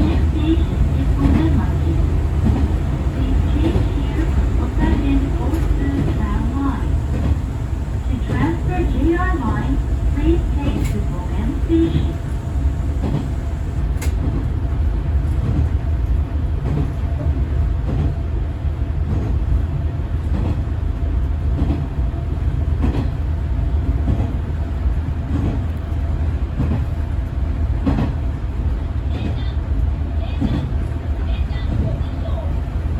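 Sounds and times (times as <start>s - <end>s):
diesel railcar engine rumble: 0.0s - 32.9s.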